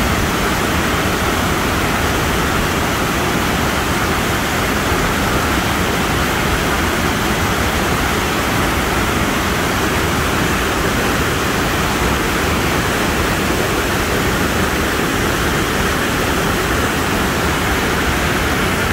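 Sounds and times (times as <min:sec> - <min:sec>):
rapids rushing over rocks: 0:00.0 - 0:18.9.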